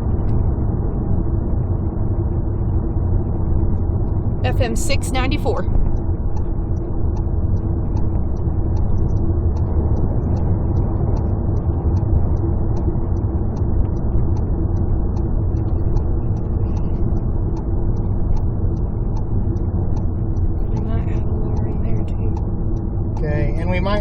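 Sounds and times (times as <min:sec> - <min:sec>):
faint regular ticking: 0:00.0 - 0:24.0
vehicle road and engine noise: 0:00.0 - 0:24.0.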